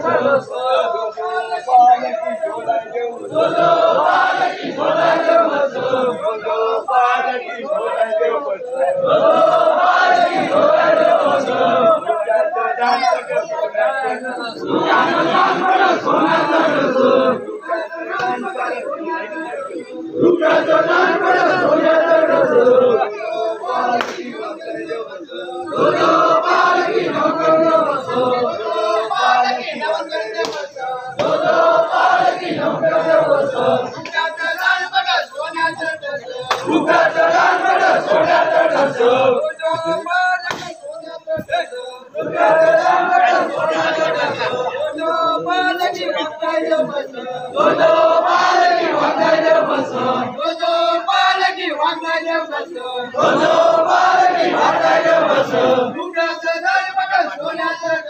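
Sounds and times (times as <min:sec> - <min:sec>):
crowd of men chanting: 0:00.0 - 0:58.0.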